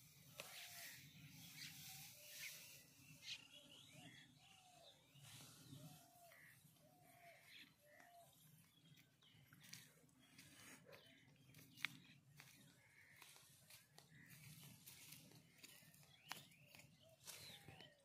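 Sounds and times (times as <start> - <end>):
faint bird calls: 0.2 - 18.0.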